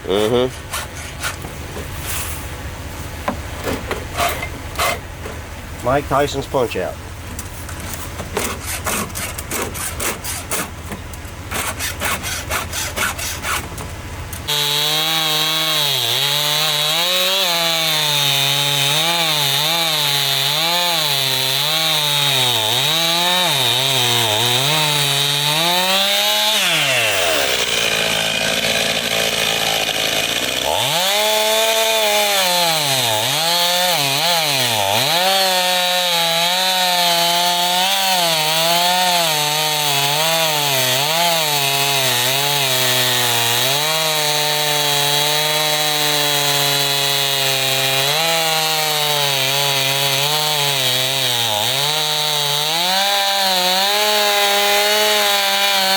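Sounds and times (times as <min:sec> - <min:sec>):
chainsaw cutting wood: 0:00.0 - 0:01.6, 0:07.9 - 0:55.9.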